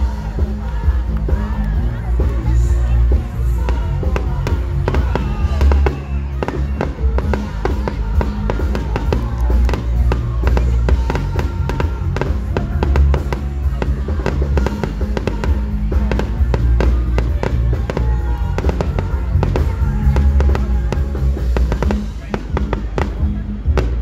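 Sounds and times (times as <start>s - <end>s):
music with heavy bass beat: 0.0s - 24.0s
fireworks popping and crackling: 3.6s - 24.0s.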